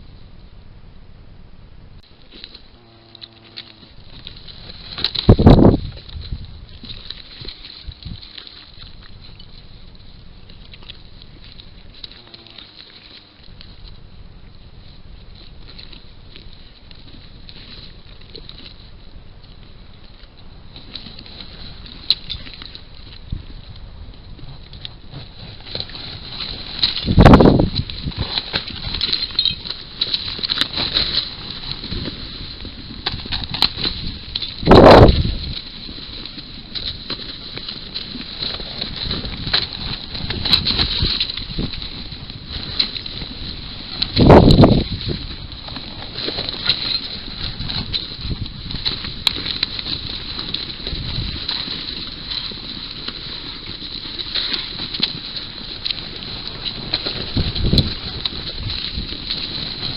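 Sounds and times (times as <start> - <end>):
steady high-pitched hum: 0.0 - 53.2
rustling: 2.0 - 59.9.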